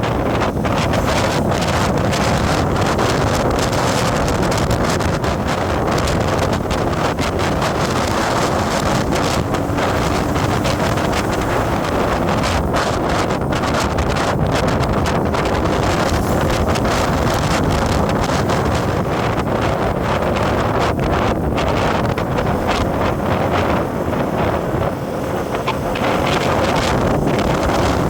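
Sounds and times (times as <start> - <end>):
vehicle running noise: 0.0 - 28.0
wind buffeting microphone: 0.0 - 28.0.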